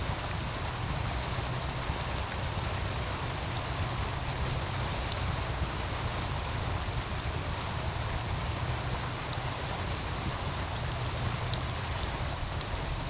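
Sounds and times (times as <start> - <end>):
stream rushing: 0.0 - 13.0
wood fire crackling: 0.0 - 13.0.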